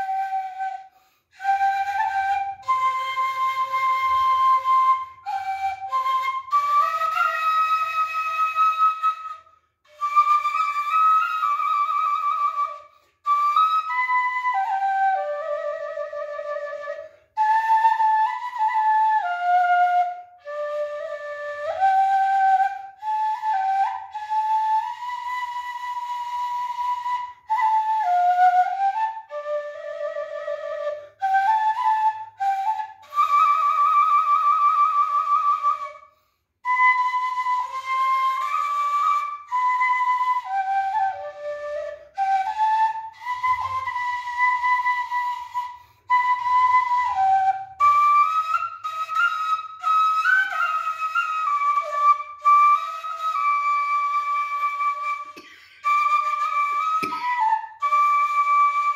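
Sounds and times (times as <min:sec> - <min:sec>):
bamboo flute slow melody: 0:00.0 - 0:58.9.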